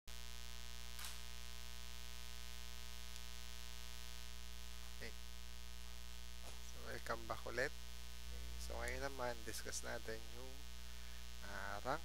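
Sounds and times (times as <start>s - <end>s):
electrical mains hum: 0.1s - 12.0s
low hiss: 0.1s - 12.0s.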